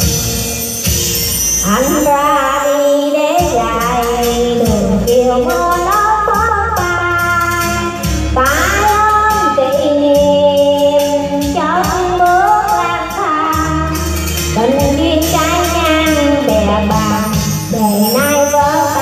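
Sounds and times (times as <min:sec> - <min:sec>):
amplified backing music with beat: 0:00.0 - 0:19.0
woman singing into a microphone: 0:01.6 - 0:19.0.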